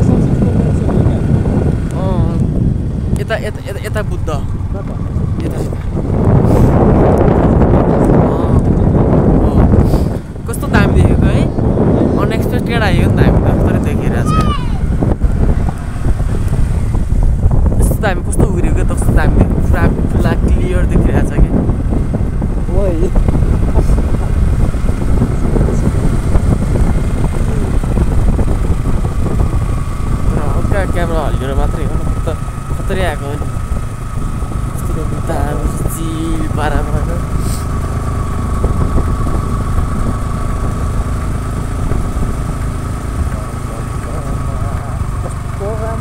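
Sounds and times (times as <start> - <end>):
vehicle engine and road noise: 0.0 - 46.0
wind buffeting microphone: 0.0 - 46.0.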